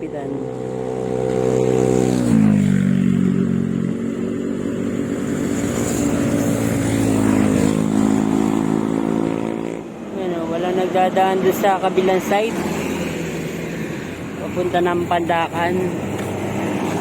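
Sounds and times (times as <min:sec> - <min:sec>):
vehicle passing by: 0:00.0 - 0:17.0.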